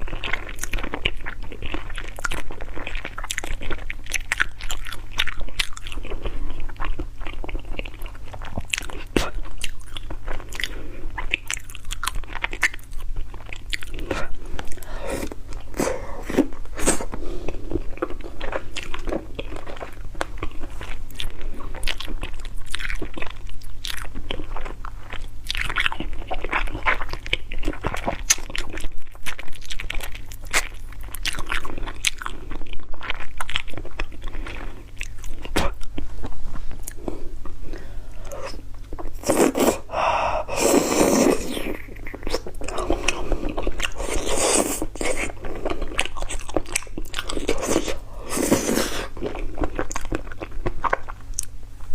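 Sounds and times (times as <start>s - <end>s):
chewing and crunching bones: 0.0s - 39.7s, 41.4s - 51.7s
steady low hum: 0.0s - 51.9s.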